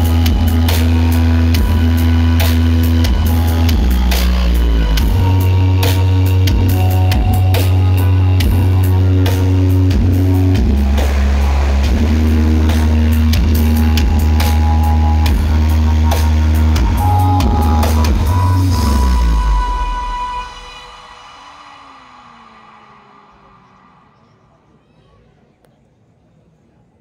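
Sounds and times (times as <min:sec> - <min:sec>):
loud music with heavy bass: 0:00.0 - 0:24.2.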